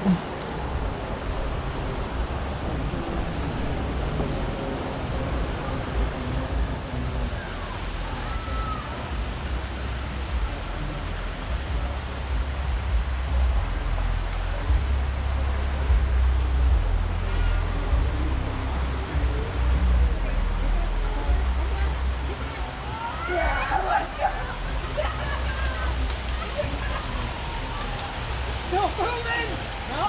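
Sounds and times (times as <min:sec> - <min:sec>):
low rumble: 0:00.0 - 0:28.7
outdoor rushing noise: 0:00.0 - 0:30.0.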